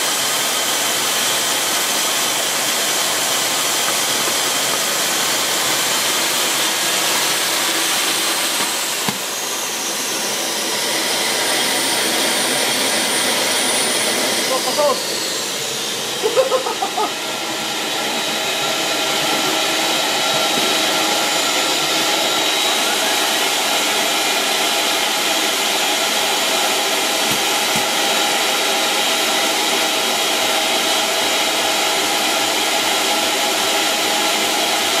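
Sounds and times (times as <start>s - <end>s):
air rushing from blower hose: 0.0s - 35.0s
thin motor whine: 0.1s - 35.0s.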